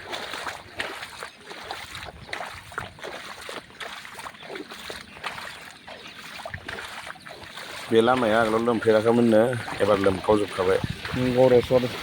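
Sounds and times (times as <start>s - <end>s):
floodwater splashing: 0.0s - 12.0s.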